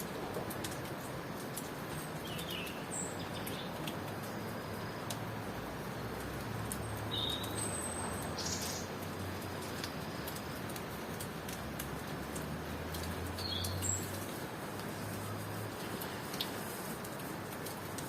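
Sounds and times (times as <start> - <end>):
steady rain: 0.0 - 18.0
water drips: 0.0 - 18.0.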